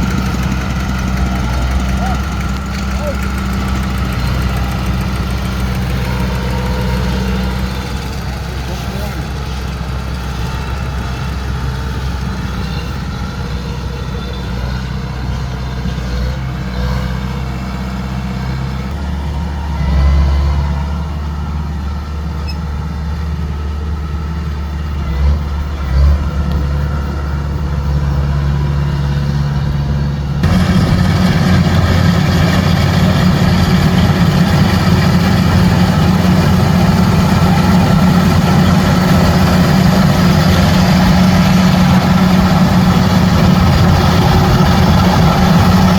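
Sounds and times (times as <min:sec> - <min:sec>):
heavy diesel engine running: 0:00.0 - 0:45.9
loud rough engine: 0:00.0 - 0:45.9.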